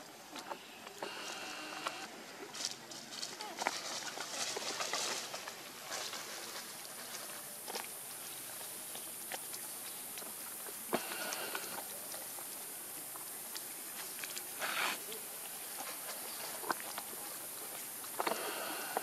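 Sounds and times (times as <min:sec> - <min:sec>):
steady high hiss: 0:00.0 - 0:19.0
animals moving on gravel and leaves: 0:00.2 - 0:19.0.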